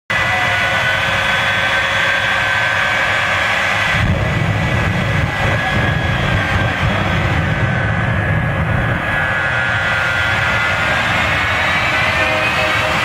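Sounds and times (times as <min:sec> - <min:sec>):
afterburner deep rumble: 0:00.1 - 0:13.0
jet engine whine: 0:00.1 - 0:13.0.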